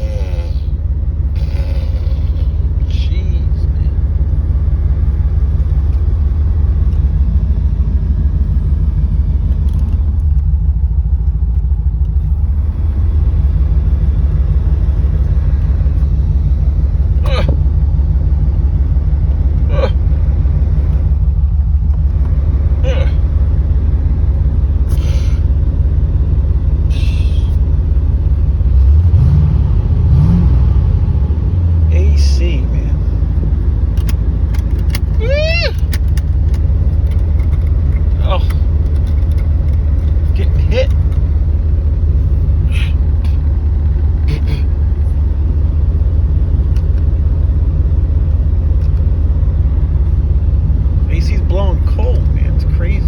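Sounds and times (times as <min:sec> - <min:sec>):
car engine rumbling from inside: 0:00.0 - 0:53.0.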